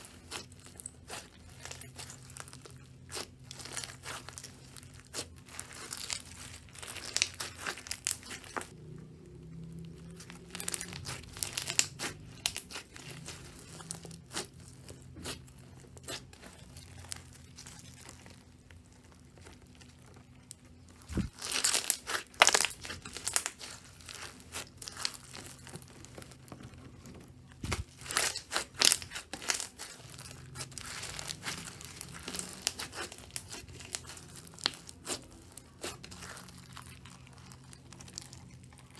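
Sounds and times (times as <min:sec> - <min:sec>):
slime squeezed by hand crackling: 0:00.0 - 0:08.8, 0:09.8 - 0:26.6, 0:27.5 - 0:38.9.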